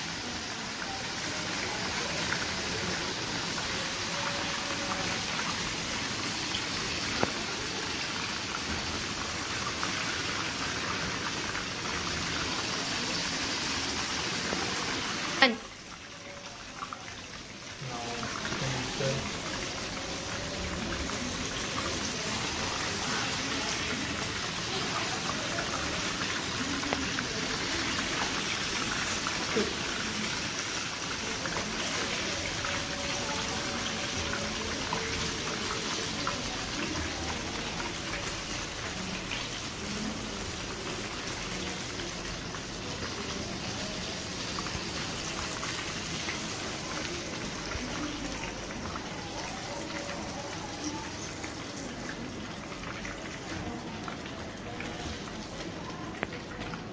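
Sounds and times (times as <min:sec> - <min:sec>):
hot oil sizzling: 0:00.0 - 0:56.9.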